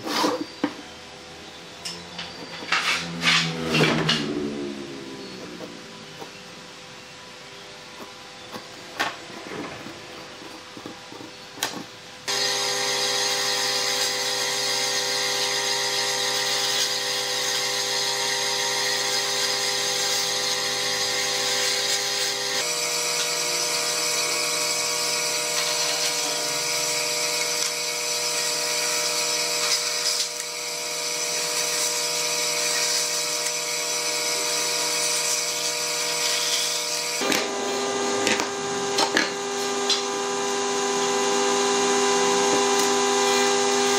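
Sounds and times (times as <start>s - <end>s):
band saw cutting wood: 1.8s - 43.9s.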